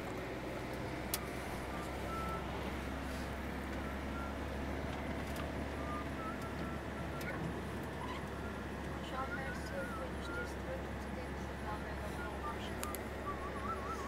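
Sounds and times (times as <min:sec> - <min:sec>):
vehicle cabin road rumble: 0:00.0 - 0:14.0.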